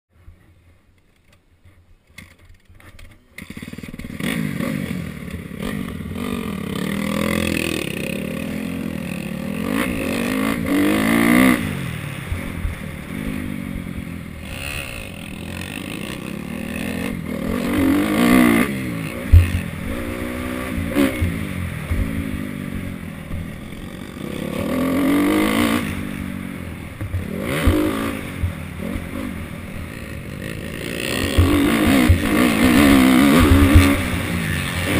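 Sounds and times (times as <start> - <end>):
dirt bike engine revving: 3.1 - 34.9.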